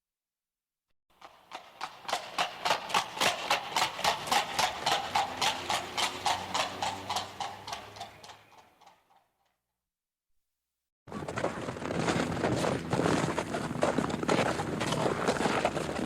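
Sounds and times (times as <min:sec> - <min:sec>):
horse hooves clip-clopping: 0:01.2 - 0:09.2, 0:11.1 - 0:16.0.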